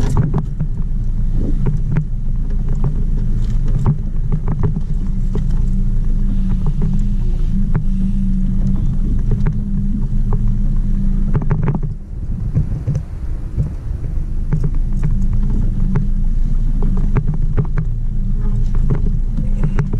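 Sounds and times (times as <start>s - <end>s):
clicks and knocks on boat: 0.0s - 13.8s, 14.4s - 19.9s
outboard motor running: 0.0s - 19.9s.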